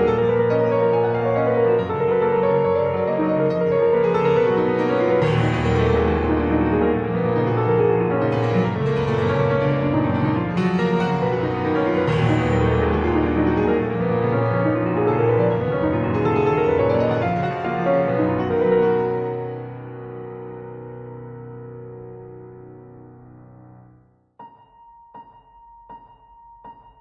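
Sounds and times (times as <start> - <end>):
dramatic solo piano: 0.0 - 27.0.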